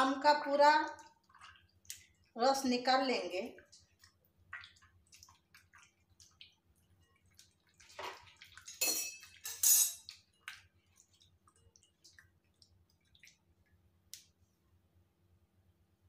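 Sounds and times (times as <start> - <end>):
wet squelching and splashing: 0.0 - 14.4.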